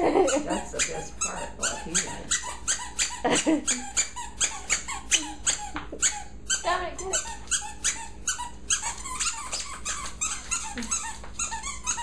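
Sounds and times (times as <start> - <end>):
squeaky dog toy squeaking: 0.2 - 12.0.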